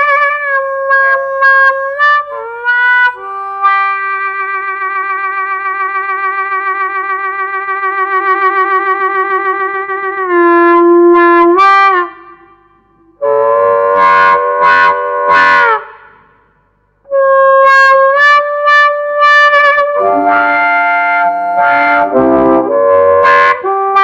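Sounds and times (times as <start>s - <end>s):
amplified harmonica: 0.0s - 15.8s, 19.5s - 24.0s.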